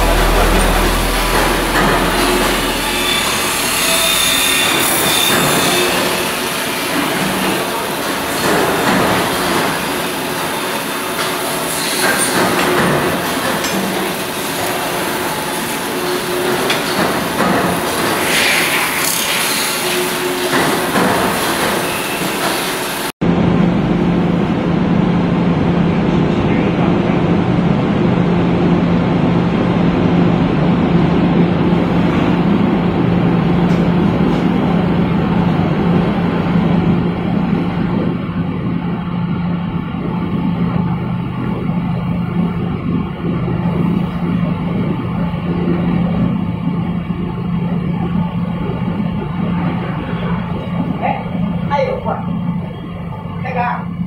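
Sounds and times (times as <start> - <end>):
forging machine rumbling: 0.0 - 54.0
low machine hum: 0.0 - 54.0.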